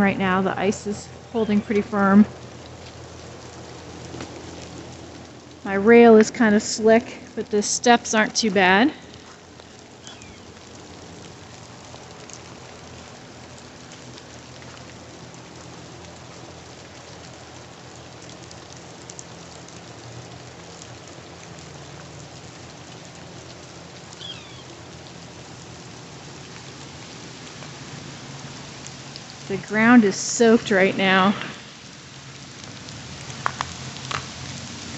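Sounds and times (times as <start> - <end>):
rain pattering: 0.0 - 34.9
louder drips: 0.9 - 34.9.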